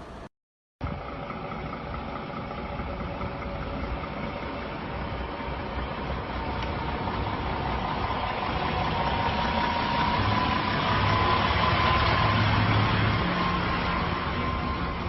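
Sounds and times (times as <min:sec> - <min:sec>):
thin whine: 0:00.0 - 0:15.0
vehicle engine running: 0:00.8 - 0:15.0.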